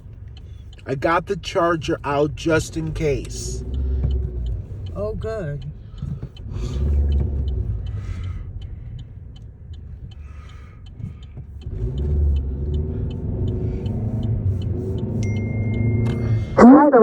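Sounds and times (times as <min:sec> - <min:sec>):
faint regular ticking: 0:00.0 - 0:16.6
car engine and road noise: 0:00.0 - 0:17.0.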